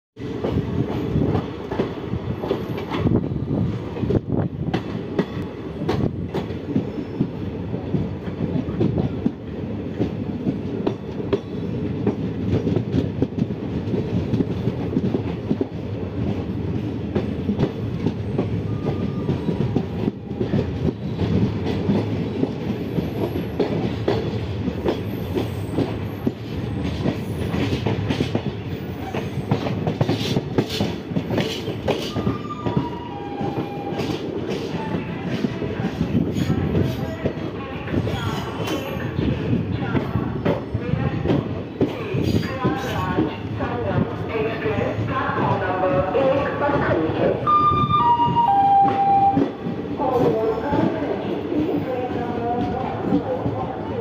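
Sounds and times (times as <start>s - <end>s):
rail joint clicks: 0.2s - 51.2s
train wheels rumbling on rail: 0.2s - 54.0s.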